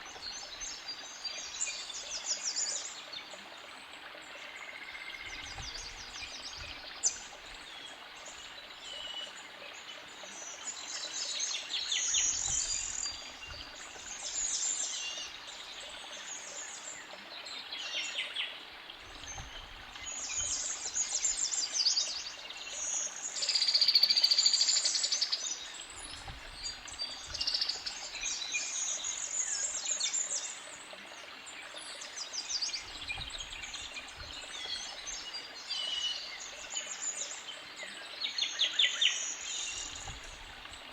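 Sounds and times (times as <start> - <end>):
creek bubbling: 0.0 - 40.9.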